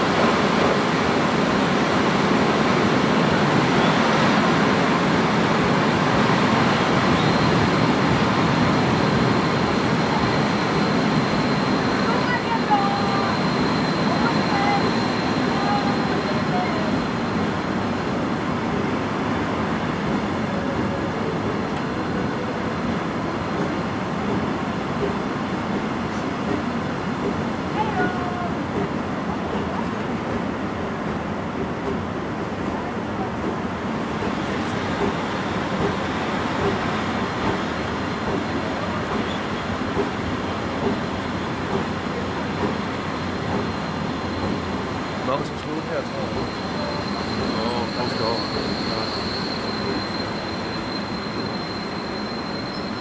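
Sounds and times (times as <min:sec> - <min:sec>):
train wheels running on rails: 0:00.0 - 0:53.0.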